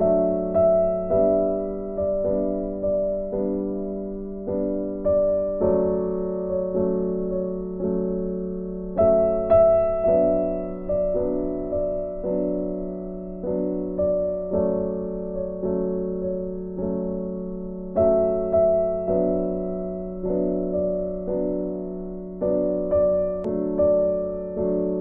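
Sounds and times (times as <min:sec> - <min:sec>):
soft piano chords: 0:00.0 - 0:25.0.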